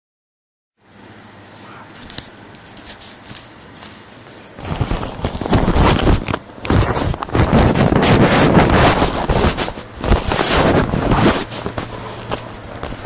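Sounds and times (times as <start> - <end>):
rumbling and rustling of phone: 1.4 - 13.0.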